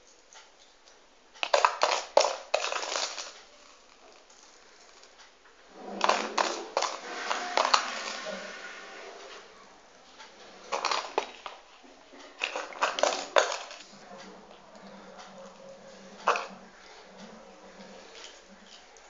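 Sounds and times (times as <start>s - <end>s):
handling noise: 1.5s - 19.0s.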